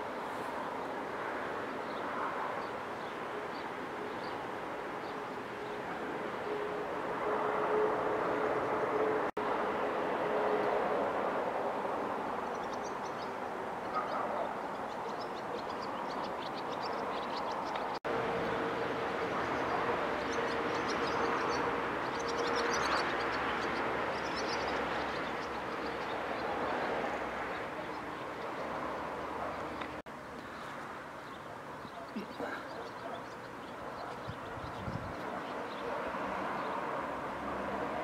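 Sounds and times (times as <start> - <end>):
rushing outdoor background noise: 0.0 - 38.0.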